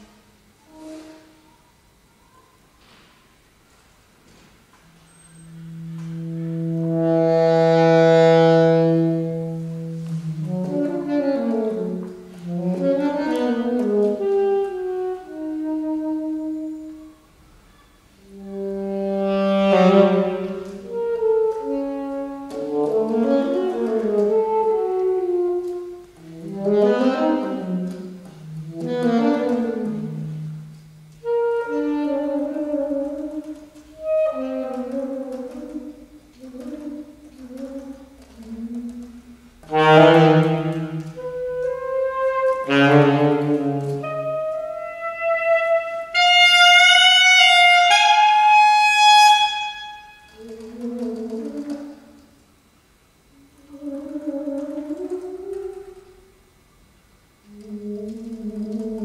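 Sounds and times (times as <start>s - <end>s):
solo saxophone: 0.0s - 3.1s, 4.2s - 59.0s.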